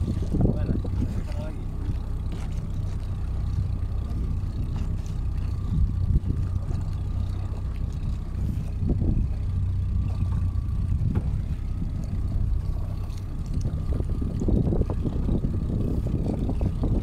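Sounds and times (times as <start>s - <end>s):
outboard motor running: 0.0s - 17.0s
wind buffeting microphone: 0.0s - 17.0s.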